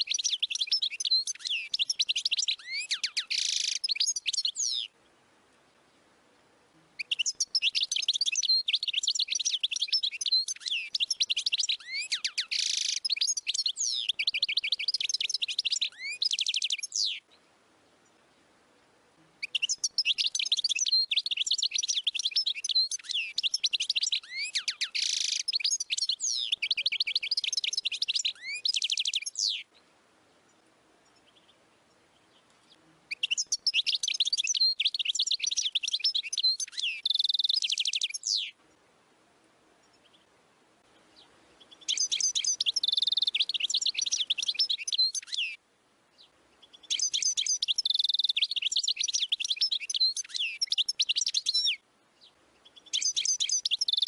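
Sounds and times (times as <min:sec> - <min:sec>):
goldfinch twittering song: 0:00.0 - 0:05.0, 0:07.0 - 0:17.3, 0:19.4 - 0:29.8, 0:33.1 - 0:38.6, 0:41.2 - 0:54.0.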